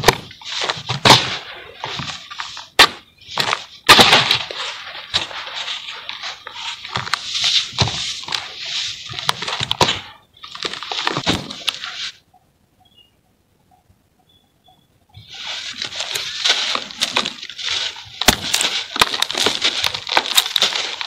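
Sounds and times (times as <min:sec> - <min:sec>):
sharp cracks: 0:00.0 - 0:11.9, 0:15.4 - 0:21.0
gritty crunching of dry mix: 0:00.0 - 0:12.2, 0:15.2 - 0:21.0.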